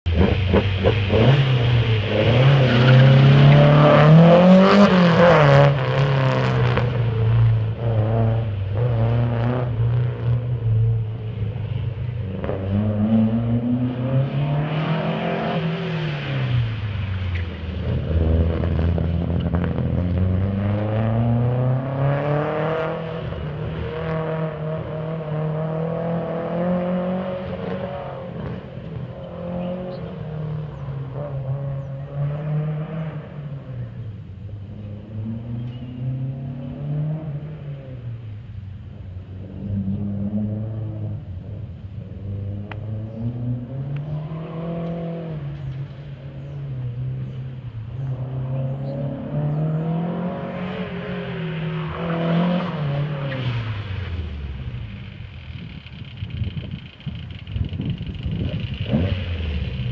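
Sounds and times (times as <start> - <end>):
car engine accelerating and revving: 0.0 - 59.9.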